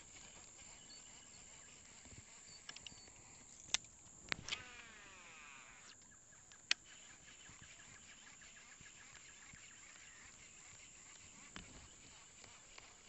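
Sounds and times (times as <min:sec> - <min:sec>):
river-bank outdoor ambience: 0:00.0 - 0:13.0.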